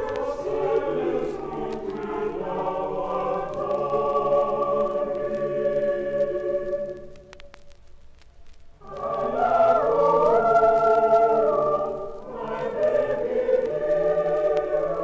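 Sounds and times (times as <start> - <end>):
choir singing a carol: 0.0 - 7.2, 8.8 - 15.0
vinyl record clicks: 0.0 - 15.0.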